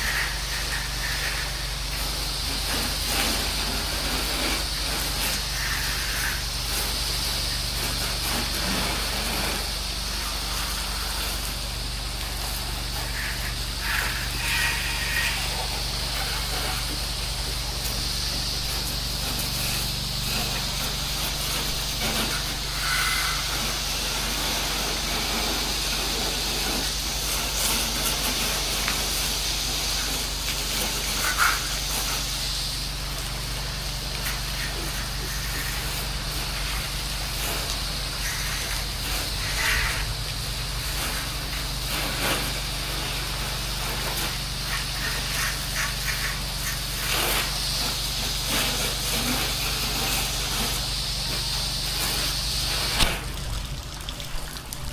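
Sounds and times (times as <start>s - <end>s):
pressure washer motor hum: 0.0s - 54.9s
water spray hissing: 0.0s - 54.9s.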